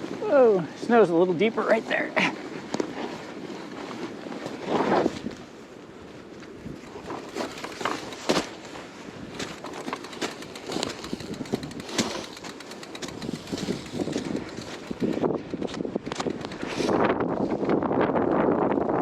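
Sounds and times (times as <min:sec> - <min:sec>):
bike tires crunching through snow: 0:00.0 - 0:18.5.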